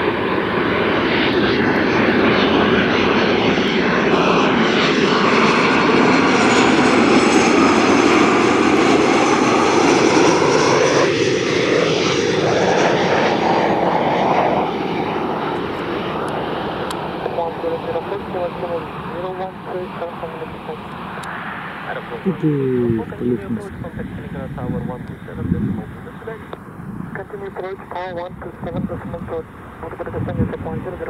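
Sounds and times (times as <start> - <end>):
faint high jet whine: 0.0 - 31.0
jet airliner passing close: 0.0 - 31.0.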